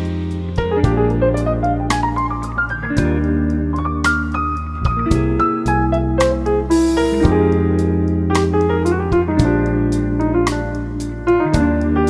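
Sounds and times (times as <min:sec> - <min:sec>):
keyboard melody over low notes: 0:00.0 - 0:12.0.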